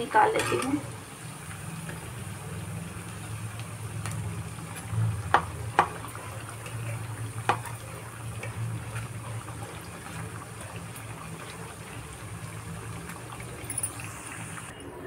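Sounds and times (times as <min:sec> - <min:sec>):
bread deep-frying in hot oil: 0:00.0 - 0:14.7.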